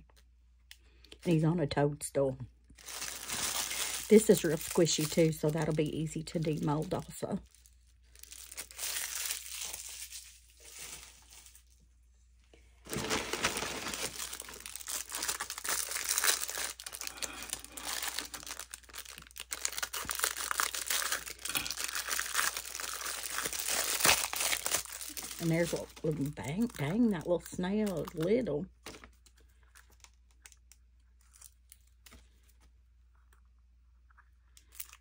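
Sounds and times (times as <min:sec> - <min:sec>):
plastic bag crinkling: 0:02.7 - 0:11.8, 0:12.8 - 0:32.6.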